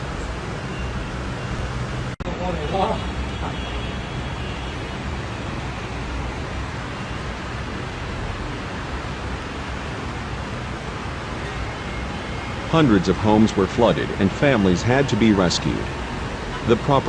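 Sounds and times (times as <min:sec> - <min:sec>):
heavy rain and flood water: 0:00.0 - 0:17.0.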